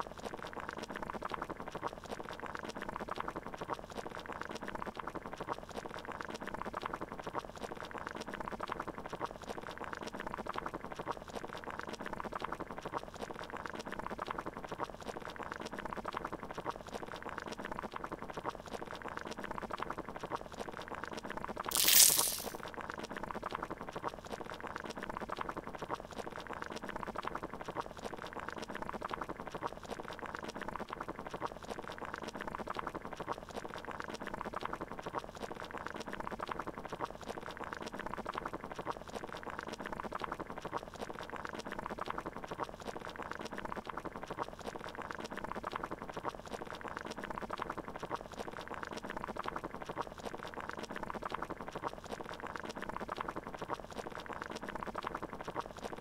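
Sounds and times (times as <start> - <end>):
water bubbling at a boil: 0.1 - 21.6, 22.8 - 56.0.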